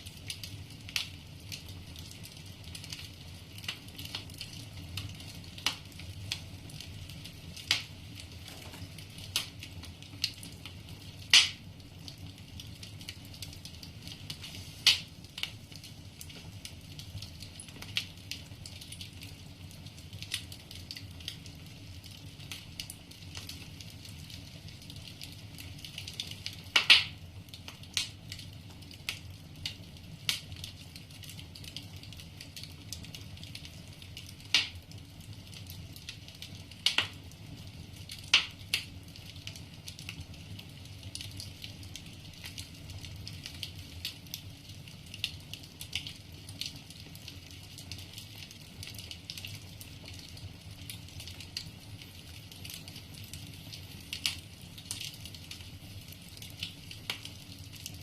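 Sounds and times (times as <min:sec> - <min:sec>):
firewood crackling and popping: 0:00.0 - 0:58.0
low steady rumble of fire: 0:00.0 - 0:58.0.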